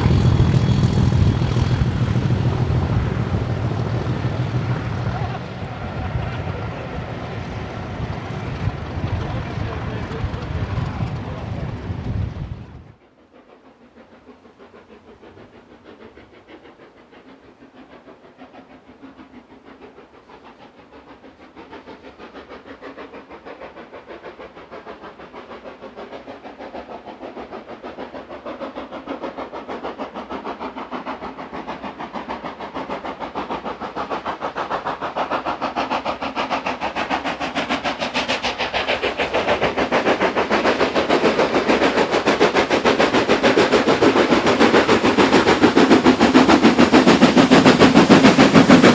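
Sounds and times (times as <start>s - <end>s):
steam locomotive exhaust beats: 0.0s - 48.9s.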